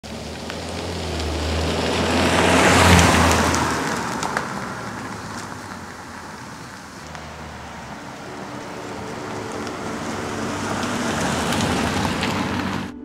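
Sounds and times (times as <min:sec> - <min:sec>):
car driving past: 0:00.1 - 0:13.0.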